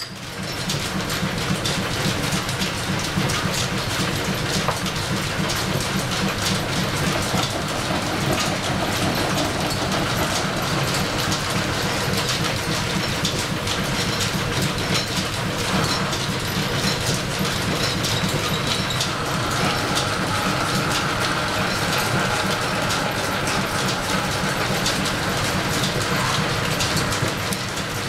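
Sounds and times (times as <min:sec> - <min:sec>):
lathe running with mechanical clatter: 0:00.0 - 0:28.0.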